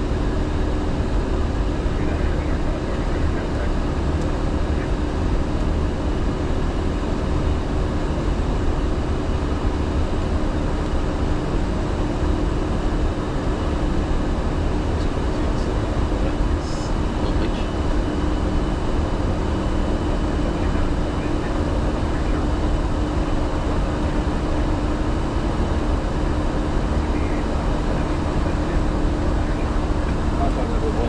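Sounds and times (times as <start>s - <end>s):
airflow and engine rush: 0.0s - 31.0s
low hum: 0.0s - 31.0s.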